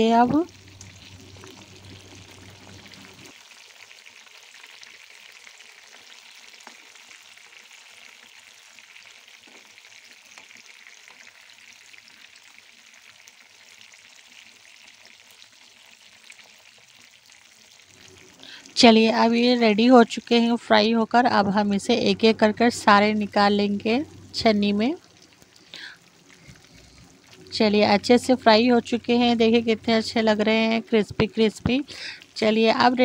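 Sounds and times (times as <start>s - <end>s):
fish frying in hot oil: 0.0s - 33.0s.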